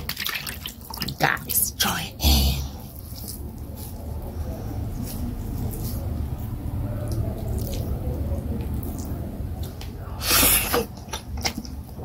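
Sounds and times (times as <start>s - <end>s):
wet squishing of dough by hand: 0.0s - 12.0s.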